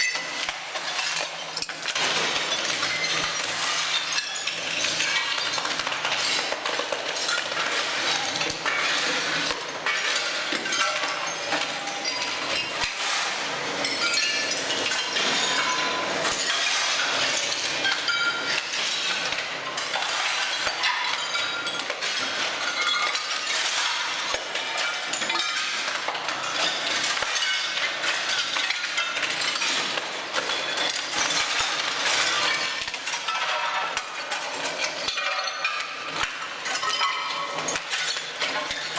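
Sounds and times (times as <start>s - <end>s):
broken shards clattering: 0.0s - 38.9s
ceramic tiles cracking and clinking: 0.0s - 38.9s.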